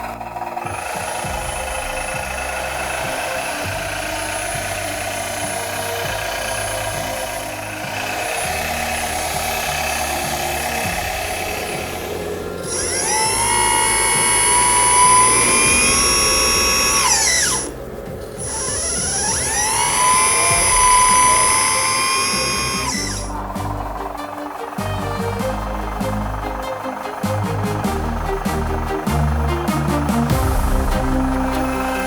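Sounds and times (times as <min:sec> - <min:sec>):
electric hydraulic pump whining: 0:00.0 - 0:32.0
steady mechanical hum: 0:00.0 - 0:32.0.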